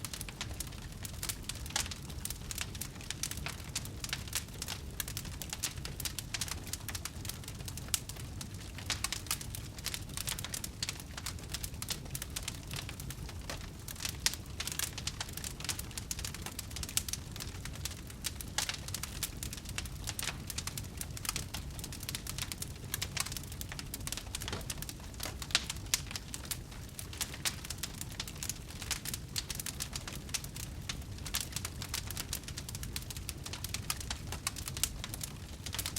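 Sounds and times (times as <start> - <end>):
flames rumbling: 0.0 - 35.9
wood crackling and popping: 0.0 - 35.9.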